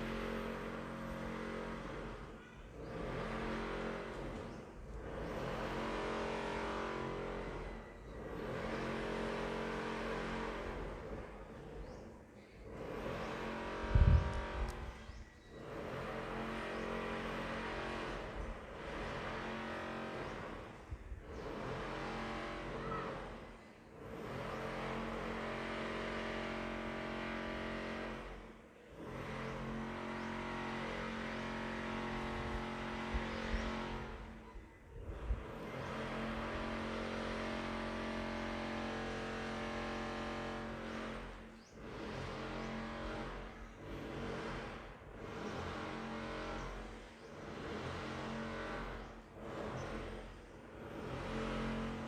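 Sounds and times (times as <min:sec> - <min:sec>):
motor engine revving: 0:00.0 - 0:52.0.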